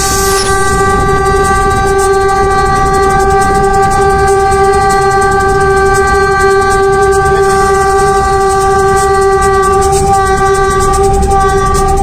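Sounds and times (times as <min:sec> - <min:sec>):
locomotive engine rumble: 0:00.0 - 0:12.0
locomotive horn blast: 0:00.0 - 0:12.0.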